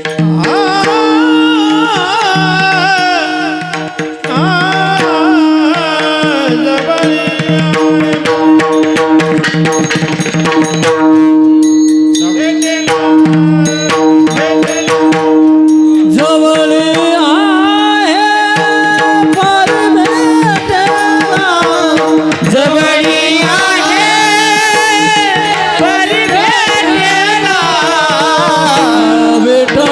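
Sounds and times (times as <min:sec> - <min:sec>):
man singing: 0:00.0 - 0:09.4, 0:12.2 - 0:15.4, 0:16.0 - 0:29.9
tabla strokes: 0:00.0 - 0:29.9.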